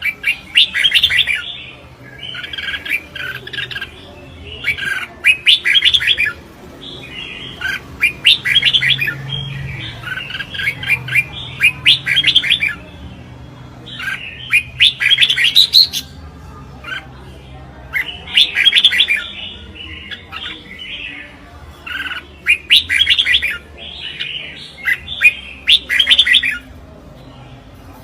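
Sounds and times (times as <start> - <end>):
bird chirping song: 0.0 - 27.8.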